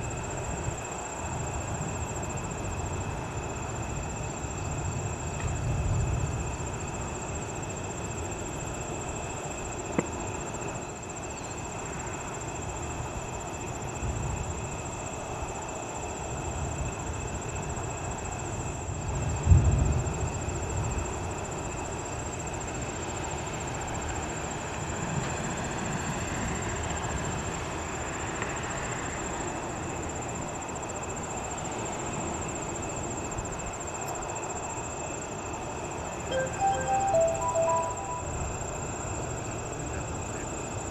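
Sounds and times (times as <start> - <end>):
steady outdoor hiss: 0.0 - 40.9.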